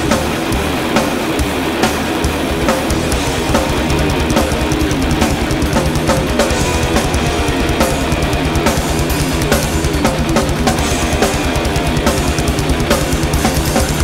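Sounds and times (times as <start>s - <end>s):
live thrash metal band: 0.0s - 14.0s.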